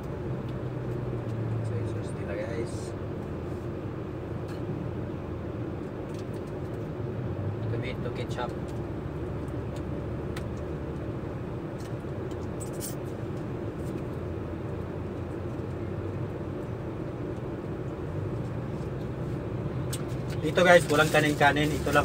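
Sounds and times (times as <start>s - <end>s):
air conditioning running: 0.0s - 22.0s
truck engine idling hum: 0.0s - 22.0s.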